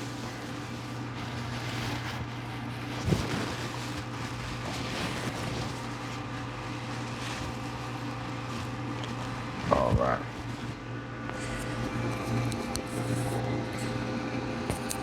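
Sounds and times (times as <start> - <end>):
paper towel rustling on skin: 0.0 - 14.0
steady low hum: 0.0 - 15.0.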